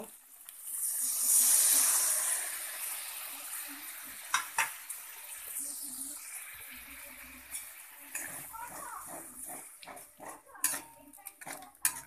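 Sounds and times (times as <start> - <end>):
liquid sizzling in a hot wok: 0.0 - 12.0.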